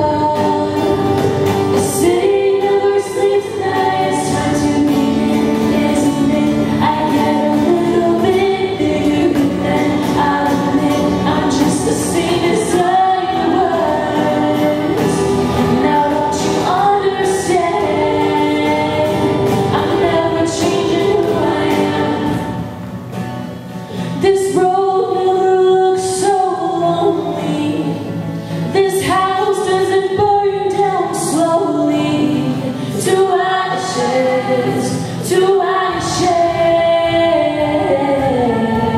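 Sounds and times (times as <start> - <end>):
female a cappella group singing: 0.0 - 22.8, 24.2 - 28.1, 28.7 - 38.9.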